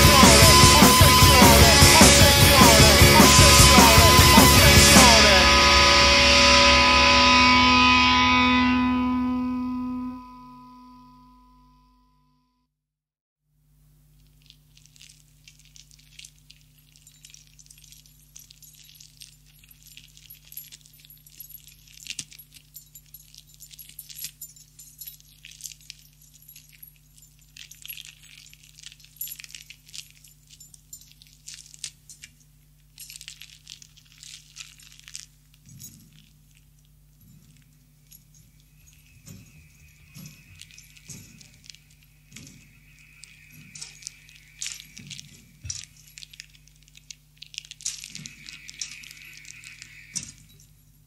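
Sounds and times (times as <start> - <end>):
metallic jangling and clinking: 0.0 - 5.2, 14.2 - 51.0
electric hum: 0.0 - 12.0, 13.7 - 51.0.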